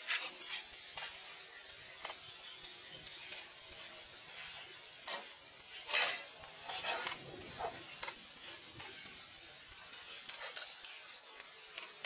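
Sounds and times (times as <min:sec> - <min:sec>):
scraping and rubbing strokes: 0:00.0 - 0:02.0, 0:03.2 - 0:12.0.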